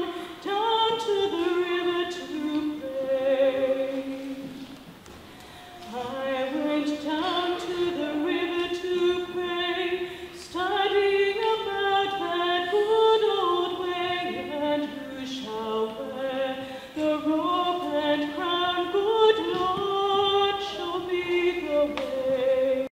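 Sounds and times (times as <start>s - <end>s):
person singing slow melody: 0.0s - 22.9s.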